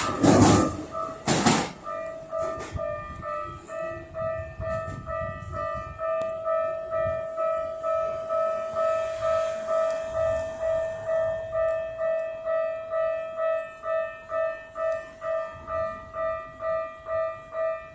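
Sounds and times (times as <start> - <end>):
level crossing warning bell ringing: 0.0 - 17.9
train rumbling over rails: 0.0 - 17.9.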